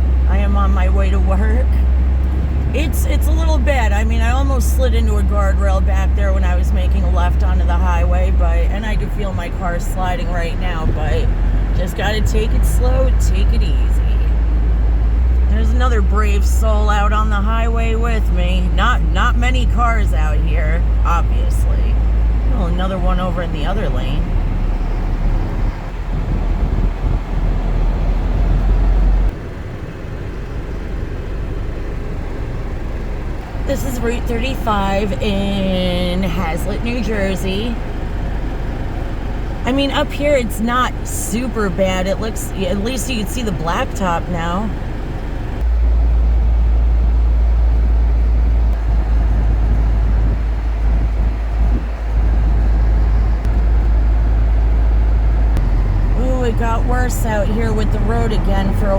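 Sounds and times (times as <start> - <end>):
tyre and engine rumble: 0.0 - 58.9.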